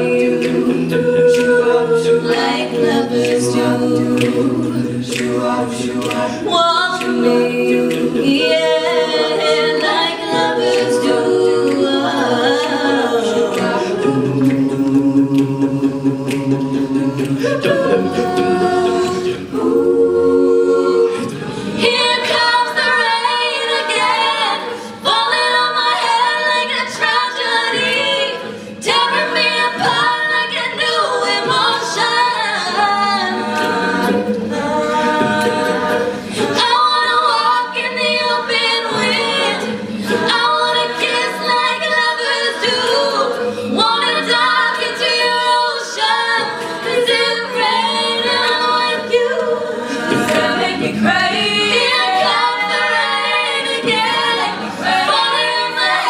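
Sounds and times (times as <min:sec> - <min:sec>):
backing voices singing: 0:00.0 - 0:56.0.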